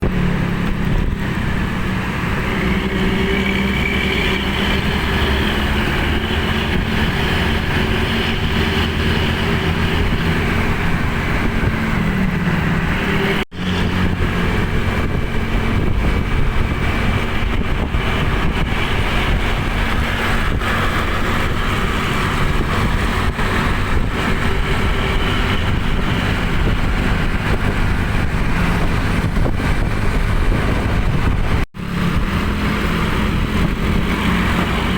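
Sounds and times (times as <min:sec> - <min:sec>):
diesel bus engine rumbling: 0:00.0 - 0:34.9.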